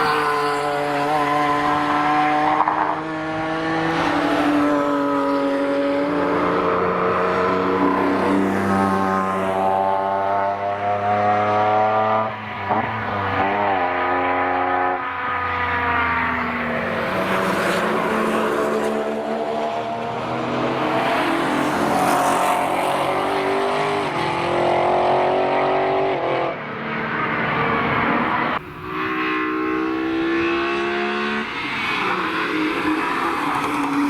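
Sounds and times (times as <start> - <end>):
car engine at full throttle: 0.0 - 34.0.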